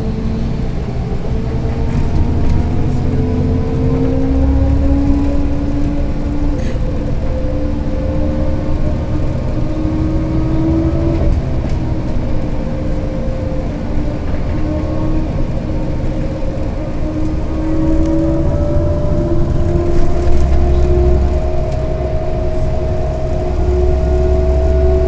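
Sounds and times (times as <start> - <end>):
bus engine rumble: 0.0 - 25.0
drivetrain whine: 0.0 - 25.0.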